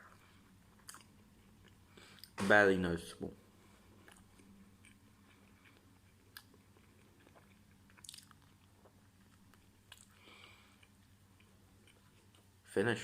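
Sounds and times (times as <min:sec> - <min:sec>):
faint chewing: 0:00.0 - 0:02.4, 0:03.6 - 0:12.7
low steady hum: 0:00.0 - 0:13.0.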